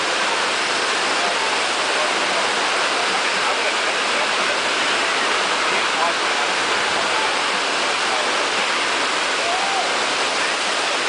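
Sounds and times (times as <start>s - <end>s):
water churning into spray: 0.0s - 11.0s
water rushing up a wave ramp: 0.0s - 11.0s.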